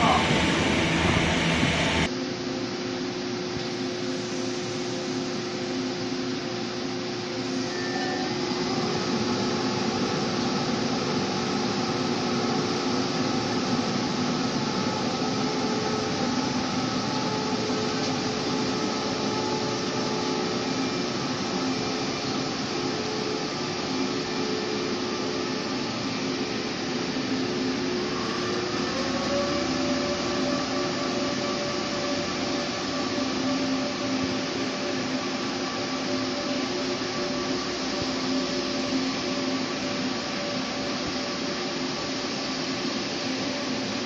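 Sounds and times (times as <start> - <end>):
train whining tones: 0.0 - 2.1, 3.8 - 44.0.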